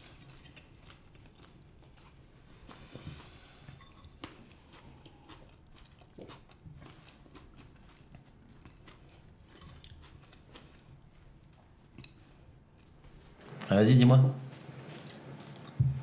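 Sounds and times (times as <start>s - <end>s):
people chewing salad: 0.0s - 13.6s, 14.5s - 16.0s.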